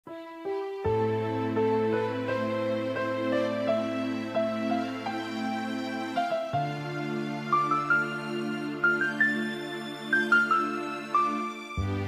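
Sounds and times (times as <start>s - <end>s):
gentle background music: 0.1s - 12.0s.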